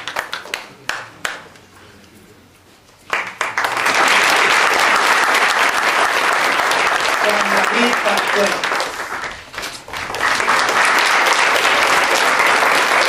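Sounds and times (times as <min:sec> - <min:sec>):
audience applauding: 0:00.0 - 0:01.6, 0:03.1 - 0:13.0.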